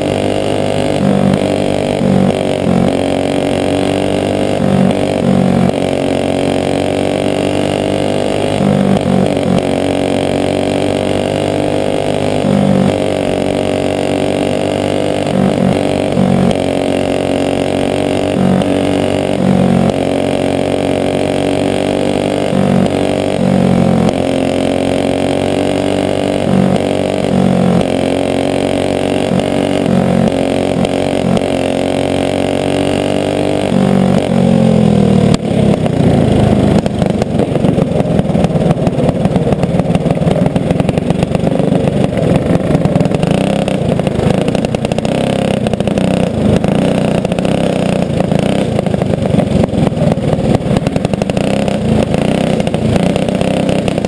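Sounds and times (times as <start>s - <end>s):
kart engine at high revs: 0.0s - 54.0s.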